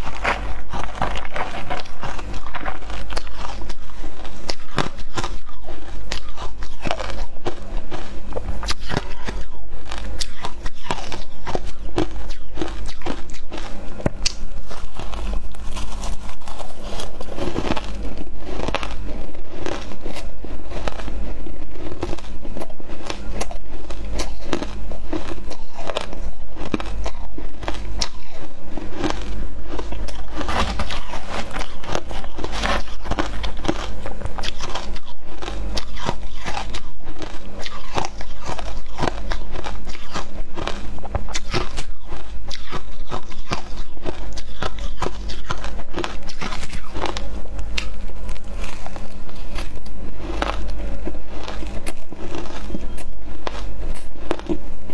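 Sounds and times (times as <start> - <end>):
crushed ice crunching: 0.0 - 42.2, 43.1 - 54.6.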